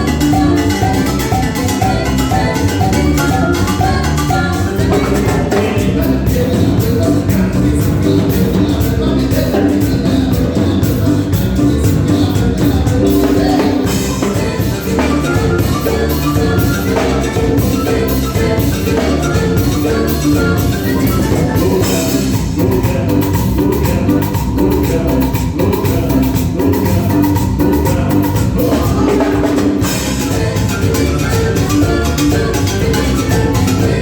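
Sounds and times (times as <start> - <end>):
drums: 0.0 - 34.0
latin band playing live: 0.0 - 34.0.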